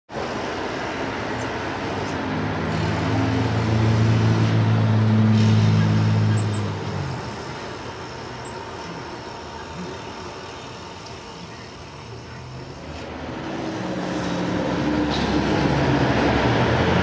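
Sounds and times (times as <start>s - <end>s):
road traffic engine hum: 0.1s - 17.0s.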